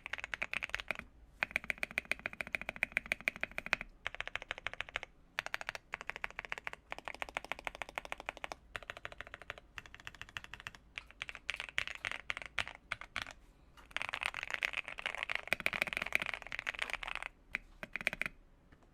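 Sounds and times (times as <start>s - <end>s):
mechanical keyboard typing: 0.0s - 18.4s.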